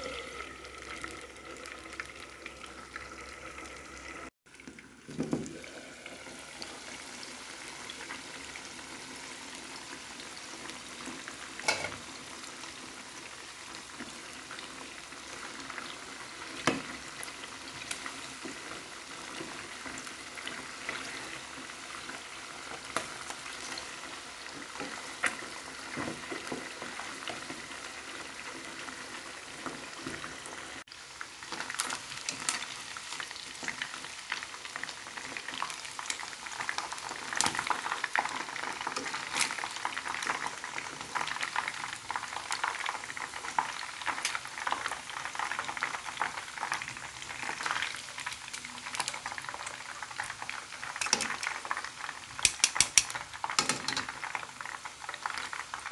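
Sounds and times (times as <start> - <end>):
chicken deep-frying in oil: 0.0 - 55.9.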